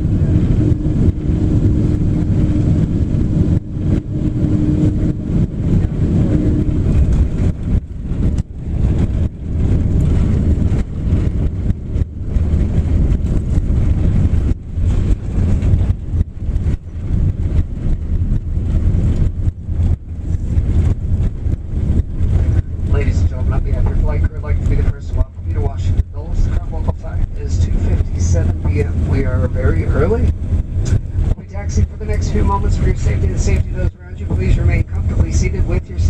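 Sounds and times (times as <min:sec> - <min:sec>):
aircraft cabin rumble: 0:00.0 - 0:36.0
steady hum: 0:00.0 - 0:36.0.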